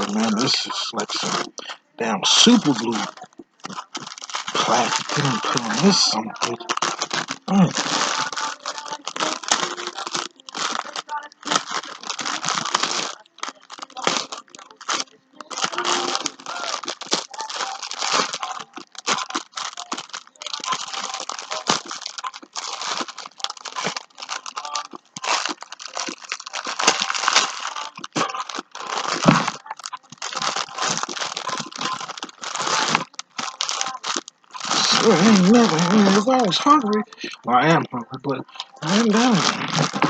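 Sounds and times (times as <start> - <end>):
plastic wrapping crinkling: 0.0 - 40.0.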